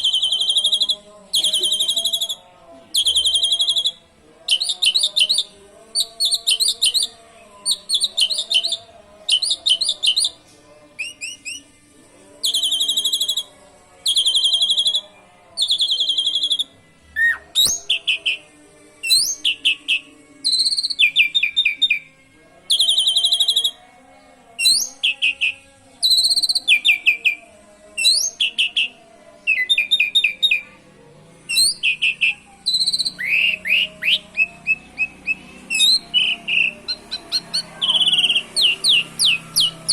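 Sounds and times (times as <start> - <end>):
starling singing high trills: 0.0 - 11.7, 12.3 - 23.9, 24.6 - 30.7, 31.5 - 39.9.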